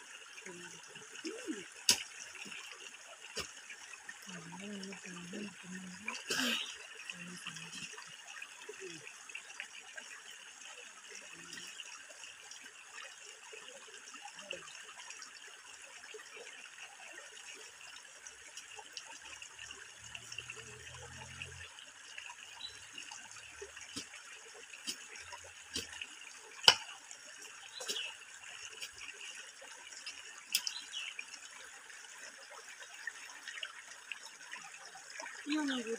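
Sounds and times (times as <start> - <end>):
running water: 0.0 - 35.9.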